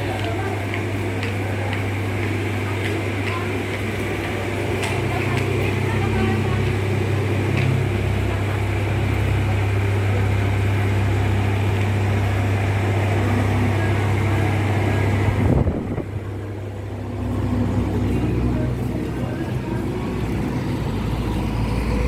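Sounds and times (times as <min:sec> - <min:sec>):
road noise: 0:00.0 - 0:22.0
vehicle engine hum: 0:00.0 - 0:22.0.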